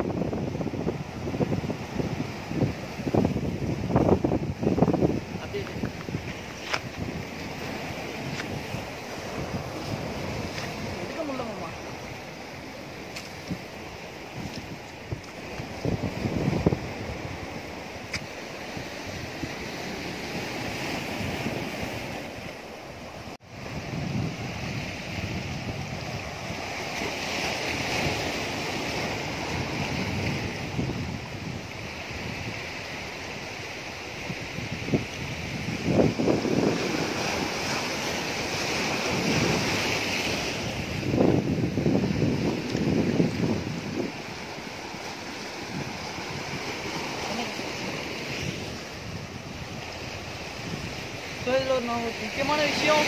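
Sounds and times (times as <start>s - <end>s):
surf against rocks: 0.0s - 53.0s
wind on microphone: 0.0s - 53.0s.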